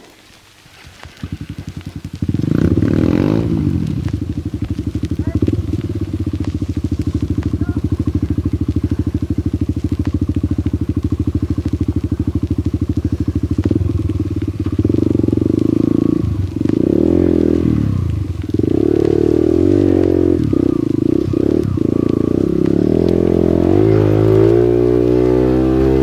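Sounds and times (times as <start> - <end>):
motorcycle engine idling and revving: 1.0 - 26.0.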